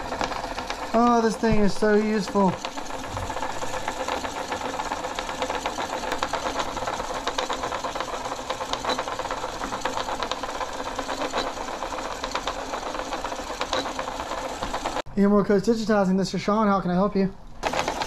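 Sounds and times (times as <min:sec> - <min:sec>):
tape machine motor and reels whirring: 0:00.0 - 0:15.1, 0:17.6 - 0:18.0.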